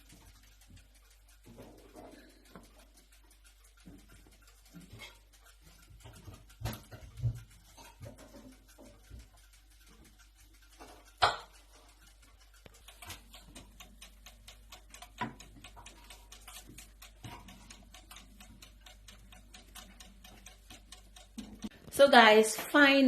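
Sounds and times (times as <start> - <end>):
fast mechanical ticking: 0.0 - 23.0.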